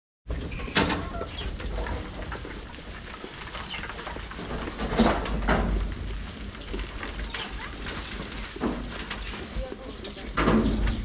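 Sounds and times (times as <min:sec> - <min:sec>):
farm animals calling: 0:00.5 - 0:04.8, 0:06.1 - 0:11.0.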